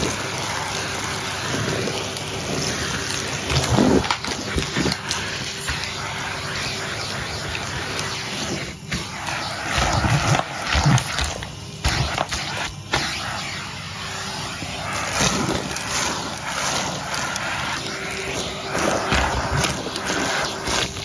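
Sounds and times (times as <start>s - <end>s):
vacuum cleaner sucking debris: 0.0s - 21.0s.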